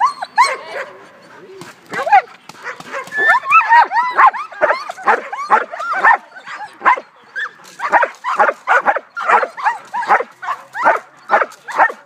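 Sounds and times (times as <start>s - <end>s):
dog yelping barks: 0.0s - 1.0s, 2.0s - 12.0s.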